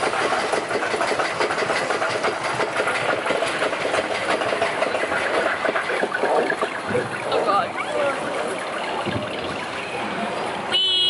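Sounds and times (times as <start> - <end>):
roller coaster wheels rattling on rail: 0.0 - 9.8.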